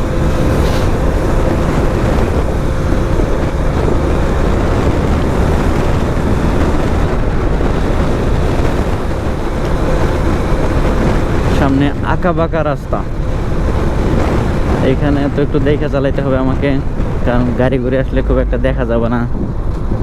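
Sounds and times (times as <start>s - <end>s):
motorcycle engine: 0.0s - 20.0s
road noise: 0.0s - 20.0s
wind rushing over microphone: 0.0s - 20.0s.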